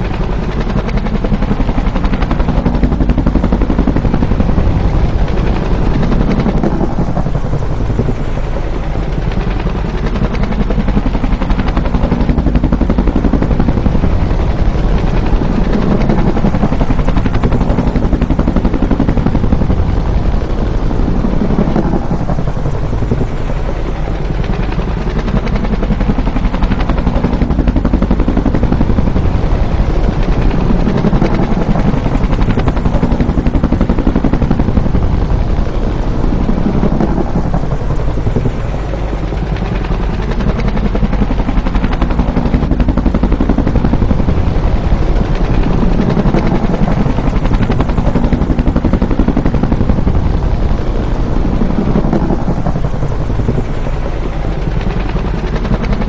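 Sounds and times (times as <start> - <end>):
helicopter rotor chopping: 0.0 - 56.0.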